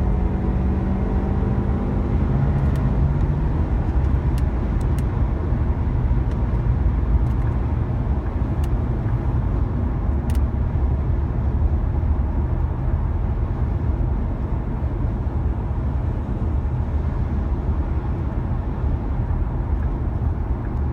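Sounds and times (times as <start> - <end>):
road noise: 0.0 - 20.9.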